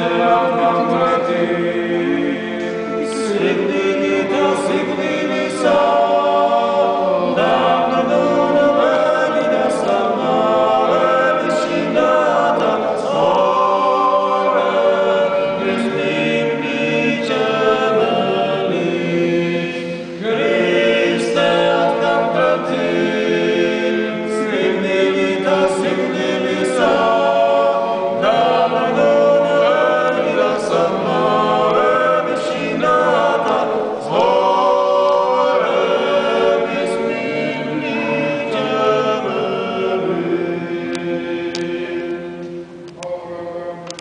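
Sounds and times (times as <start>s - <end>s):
men singing church chant: 0.0s - 44.0s.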